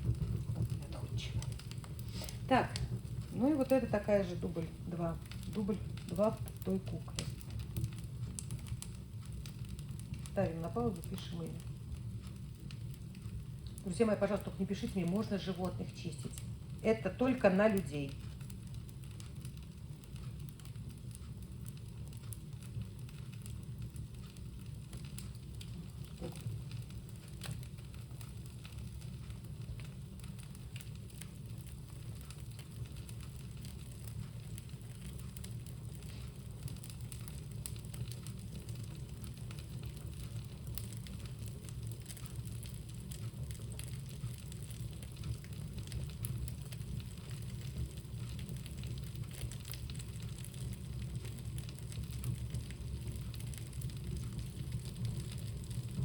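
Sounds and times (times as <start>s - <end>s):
bonfire crackling and popping: 0.0s - 56.0s
low fire rumble: 0.0s - 56.0s.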